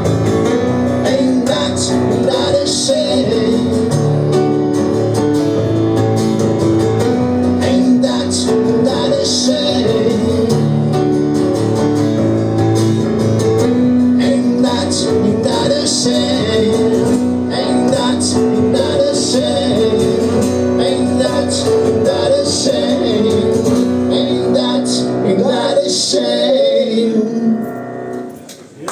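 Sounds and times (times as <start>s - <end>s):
live band playing guitar: 0.0s - 28.8s.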